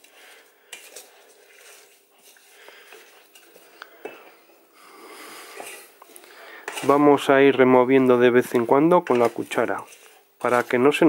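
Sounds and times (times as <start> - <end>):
spatula stirring tomatoes in pot: 0.0 - 11.0.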